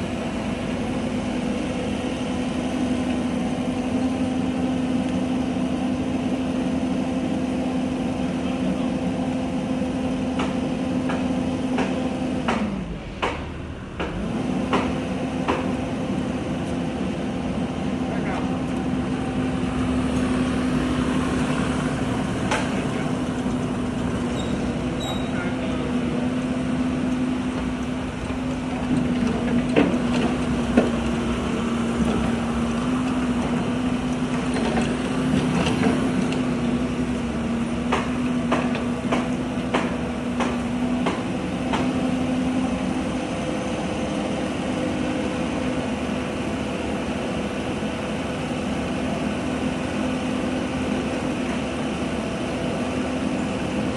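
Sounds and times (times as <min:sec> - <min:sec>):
excavator engine running: 0:00.0 - 0:53.9.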